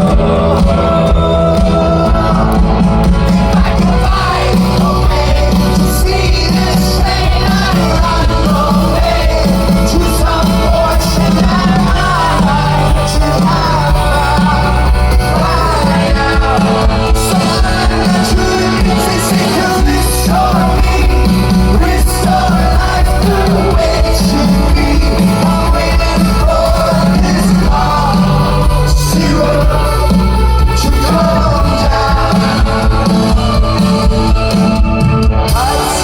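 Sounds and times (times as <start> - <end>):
live rock band playing: 0.0 - 36.0
person singing: 0.0 - 36.0.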